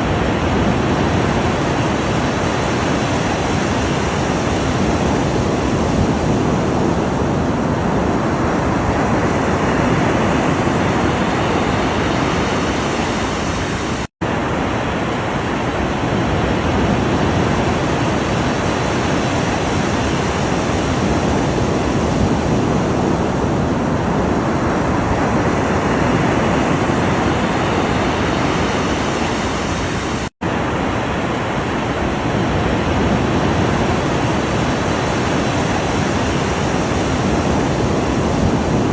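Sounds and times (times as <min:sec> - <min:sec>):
ocean waves washing: 0:00.0 - 0:38.9.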